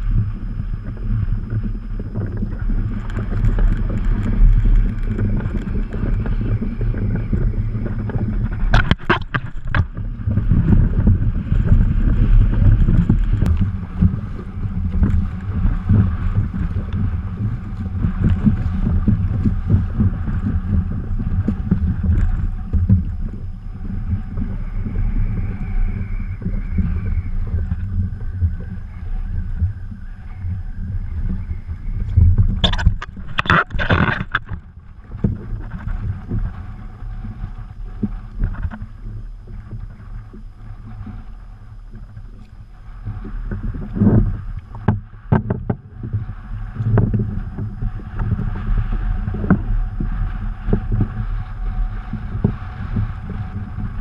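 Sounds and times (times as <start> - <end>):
water slapping around a kayak: 0.0 - 54.0
wind buffeting microphone: 0.0 - 54.0.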